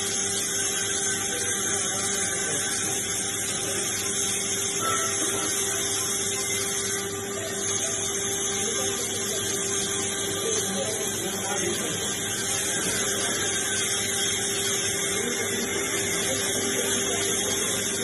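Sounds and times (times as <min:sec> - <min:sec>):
steady hum: 0:00.0 - 0:18.0
welding arc crackling: 0:00.0 - 0:18.0.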